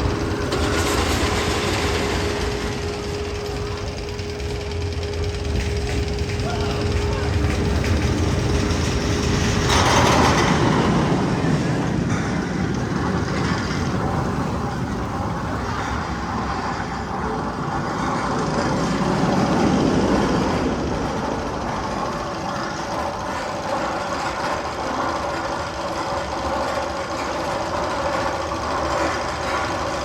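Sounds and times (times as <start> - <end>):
engine-like noise over loudspeakers: 0.0 - 30.0.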